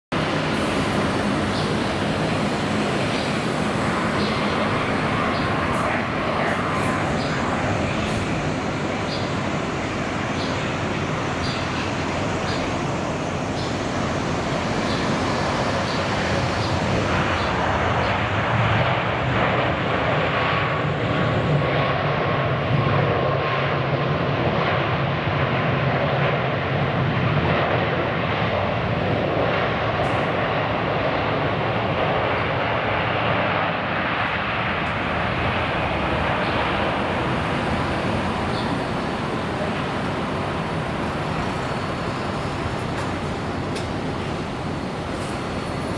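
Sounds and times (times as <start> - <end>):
jet engine rush: 0.1 - 45.9.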